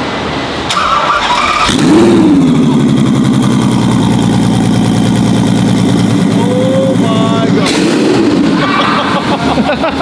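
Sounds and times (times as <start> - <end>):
car engine starting and idling: 0.6 - 10.0.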